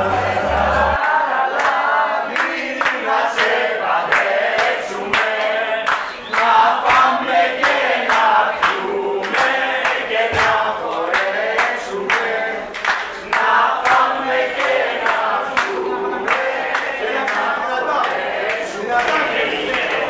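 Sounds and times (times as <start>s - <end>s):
group singing: 0.0s - 20.0s
hand-claps in time: 1.0s - 20.0s.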